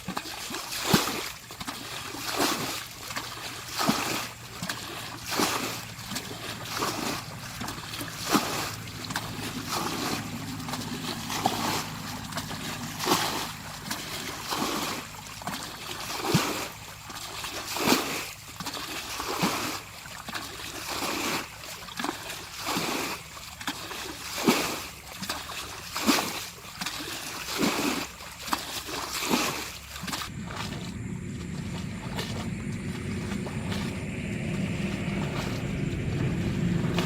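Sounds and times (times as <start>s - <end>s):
water splashing and sloshing: 0.0s - 37.0s.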